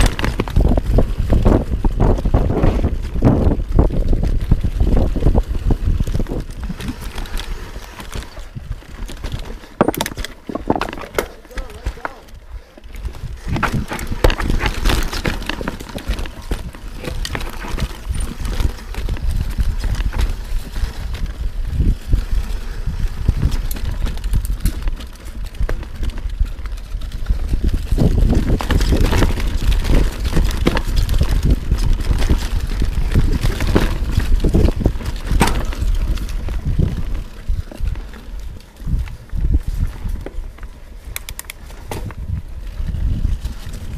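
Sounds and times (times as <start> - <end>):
bike rattling and clattering: 0.0 - 43.9
tyres rumbling over rocks: 0.0 - 43.9.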